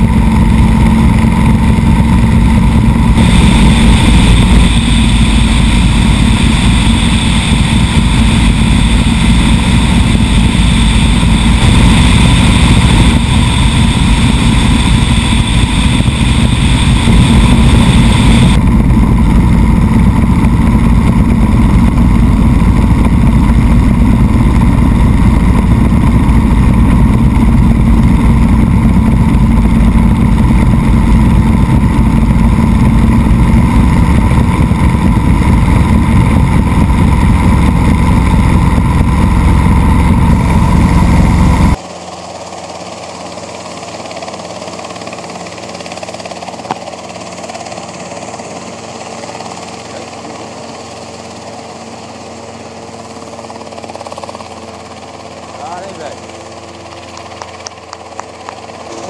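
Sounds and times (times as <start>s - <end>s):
helicopter rotor and turbine drone: 0.0s - 59.0s
high turbine whine: 0.0s - 59.0s.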